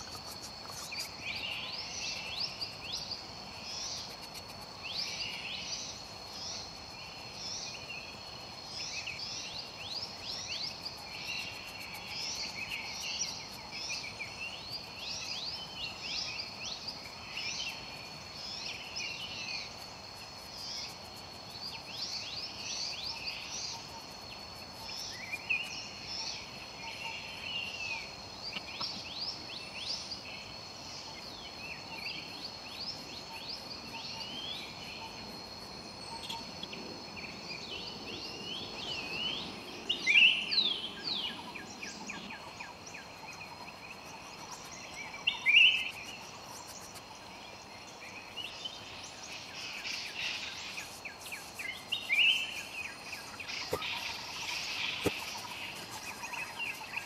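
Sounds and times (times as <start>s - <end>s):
birds chirping: 0.0s - 57.0s
insect drone: 0.0s - 57.0s.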